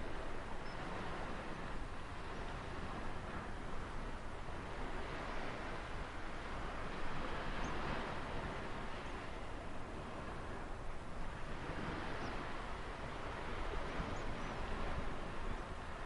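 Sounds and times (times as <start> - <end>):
ocean surf washing on shore: 0.0 - 16.0.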